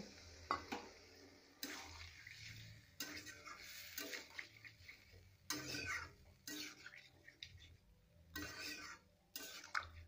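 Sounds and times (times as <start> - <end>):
spatula stirring watery curry: 0.3 - 10.0.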